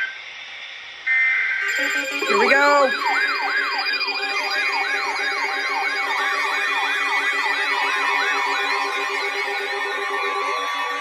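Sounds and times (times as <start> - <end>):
electronic alert tone sweeping: 1.6 - 11.0.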